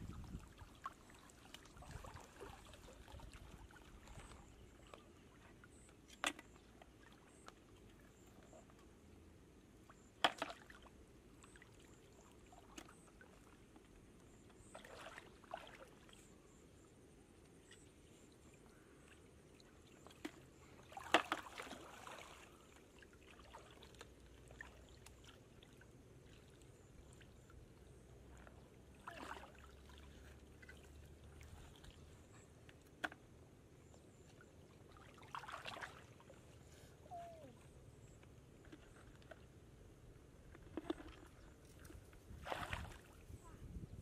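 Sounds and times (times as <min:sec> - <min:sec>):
splashing in shallow muddy water: 0:00.0 - 0:08.9, 0:09.8 - 0:44.0.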